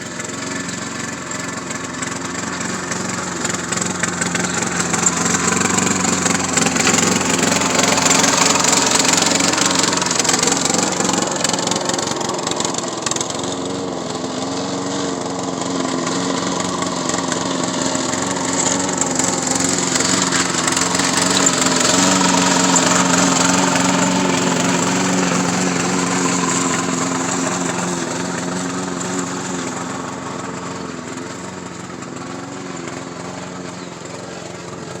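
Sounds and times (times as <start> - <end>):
small lawn mower engine running: 0.0 - 35.0.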